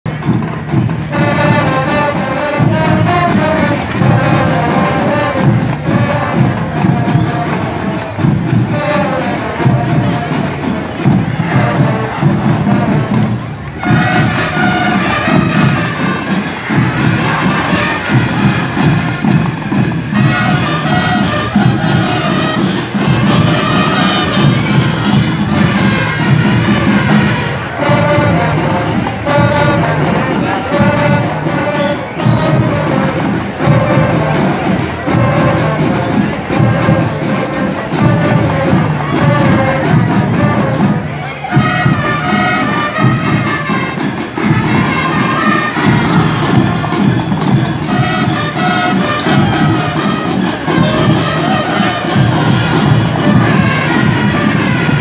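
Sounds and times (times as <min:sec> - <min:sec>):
brass band playing: 0:00.1 - 0:55.0.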